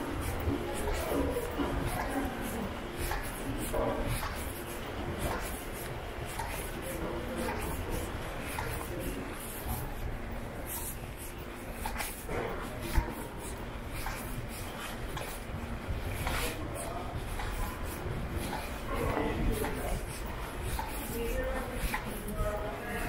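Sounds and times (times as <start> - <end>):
faint distant voices: 0.0 - 23.0
footsteps: 0.0 - 23.0.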